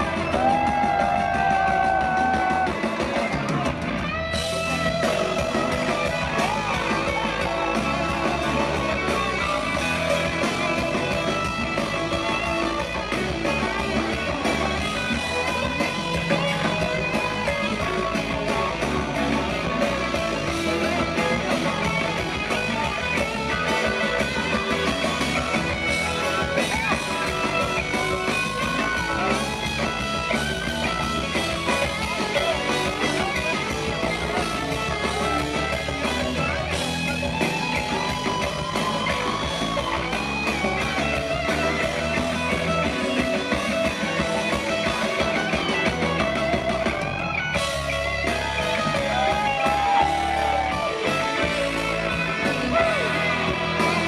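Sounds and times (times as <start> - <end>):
electric guitar bent notes: 0.0 - 54.0
rock band playing: 0.0 - 54.0.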